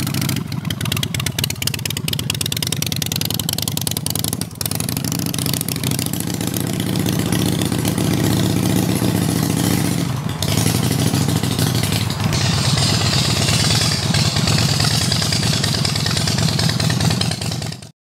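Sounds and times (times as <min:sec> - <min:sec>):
motorcycle engine riding by: 0:00.0 - 0:17.9.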